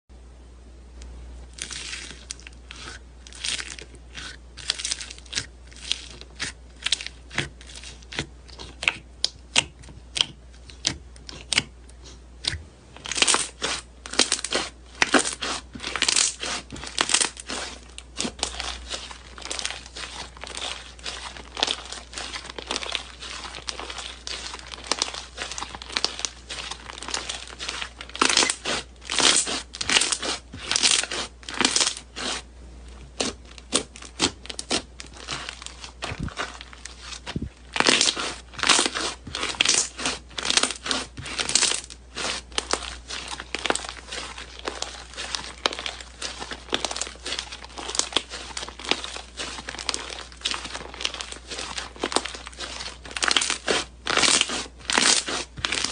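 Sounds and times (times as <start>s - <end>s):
slime crackling and popping: 1.5s - 11.8s, 12.4s - 32.4s, 33.0s - 55.9s.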